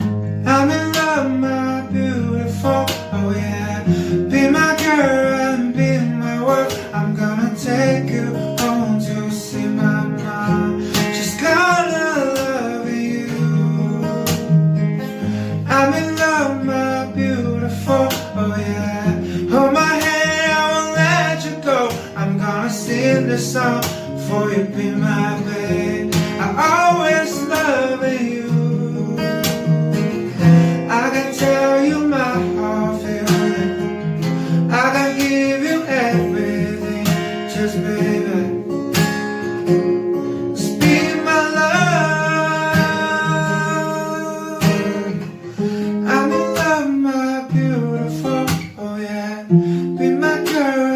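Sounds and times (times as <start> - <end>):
acoustic guitar strumming: 0.0 - 50.9
person singing: 0.4 - 14.5, 15.3 - 38.8, 40.3 - 50.9.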